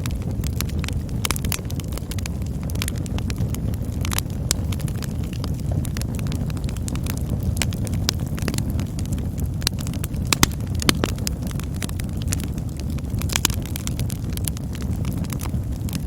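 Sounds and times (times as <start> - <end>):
burning wood crackling and popping: 0.0 - 16.0
campfire flame rumble: 0.0 - 16.0.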